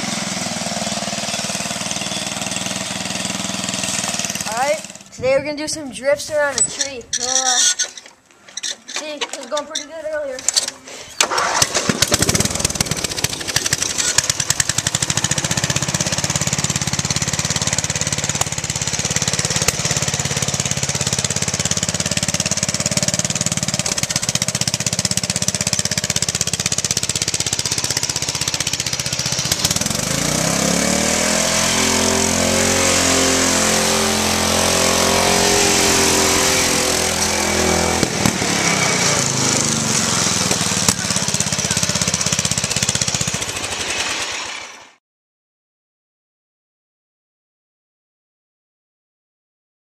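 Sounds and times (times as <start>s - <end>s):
riding lawn mower engine revving: 0.0s - 45.0s.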